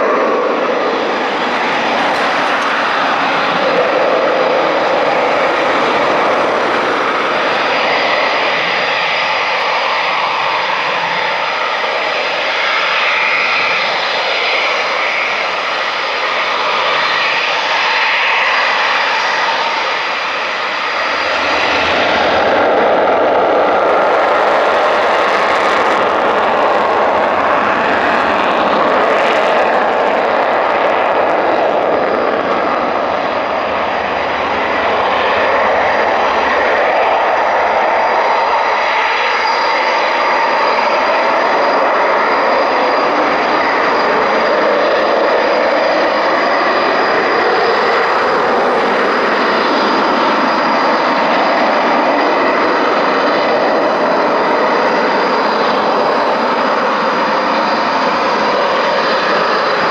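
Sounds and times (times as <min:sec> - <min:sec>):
high jet whine: 0:00.0 - 0:59.9
jet engines running: 0:00.0 - 0:59.9.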